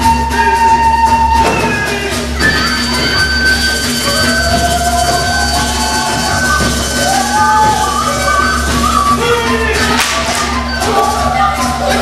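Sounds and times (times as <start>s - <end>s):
live folk dance band: 0.0s - 12.0s.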